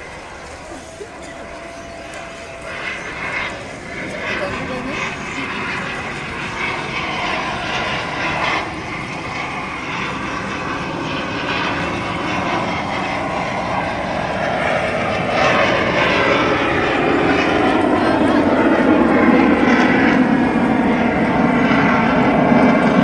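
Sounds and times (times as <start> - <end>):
aircraft engines droning overhead: 0.0 - 23.0.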